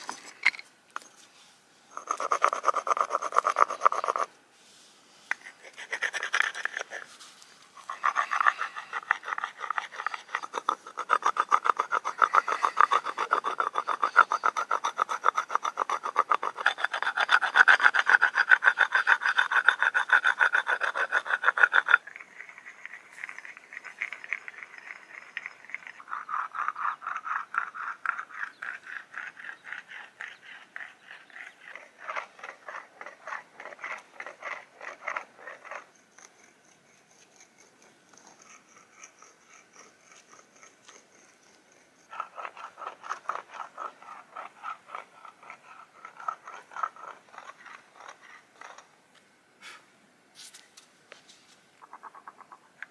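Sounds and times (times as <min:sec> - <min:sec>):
grinding on sandstone slab: 0:00.0 - 0:00.7, 0:01.9 - 0:04.3, 0:05.3 - 0:48.9
stone scraping antler: 0:00.0 - 0:01.2, 0:01.9 - 0:04.3, 0:05.3 - 0:48.9.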